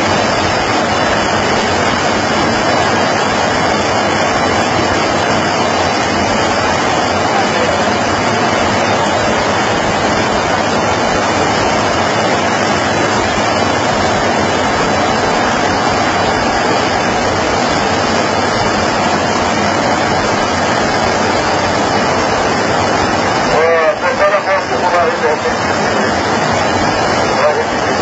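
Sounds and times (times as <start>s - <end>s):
loud rushing noise: 0.0s - 28.0s.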